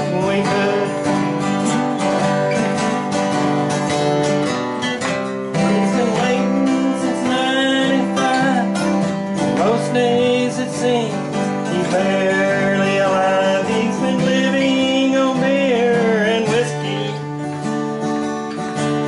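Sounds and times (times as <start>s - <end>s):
acoustic guitars strumming: 0.0s - 19.0s
guitar melody bending: 0.0s - 19.0s.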